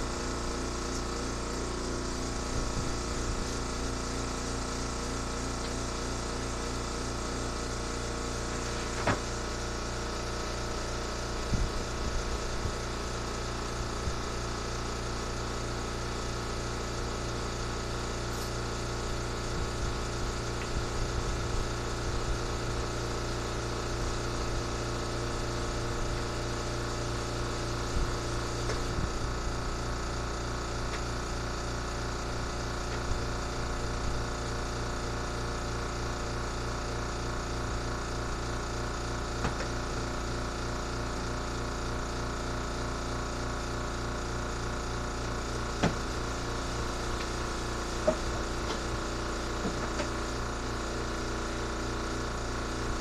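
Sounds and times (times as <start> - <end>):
air compressor running: 0.0 - 53.0.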